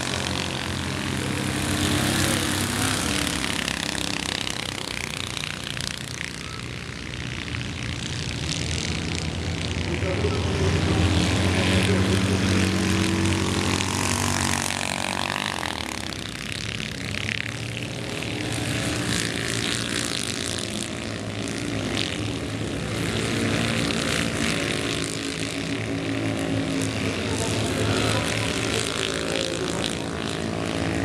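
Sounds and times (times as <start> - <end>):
race car engines buzzing at high revs: 0.0 - 31.0.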